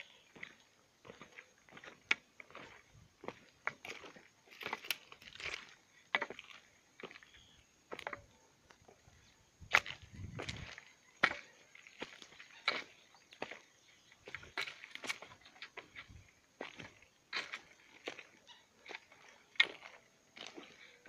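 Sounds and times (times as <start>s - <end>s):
footsteps crunching on gravel: 0.0s - 9.1s, 9.7s - 21.0s.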